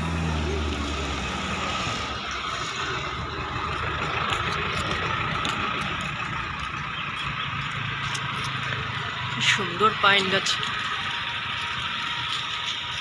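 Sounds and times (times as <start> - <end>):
car driving by: 0.0 - 13.0
steady traffic noise: 0.0 - 13.0.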